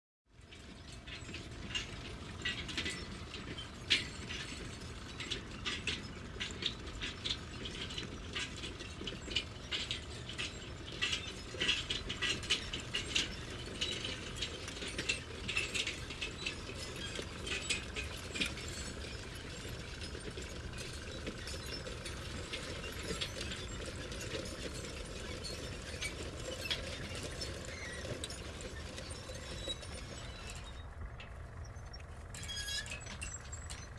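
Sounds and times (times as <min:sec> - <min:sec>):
metallic clanks and clinks: 0:00.5 - 0:33.9.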